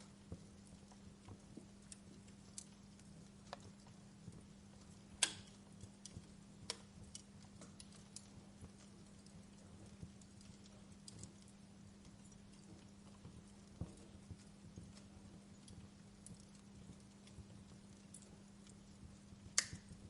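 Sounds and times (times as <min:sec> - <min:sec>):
faint steady hiss: 0:00.0 - 0:20.0
wood fire crackling: 0:00.0 - 0:20.0.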